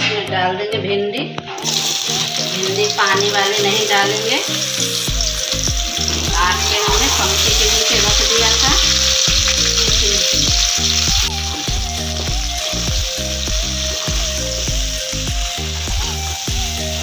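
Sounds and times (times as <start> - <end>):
okra sizzling in hot oil: 1.6 - 17.0.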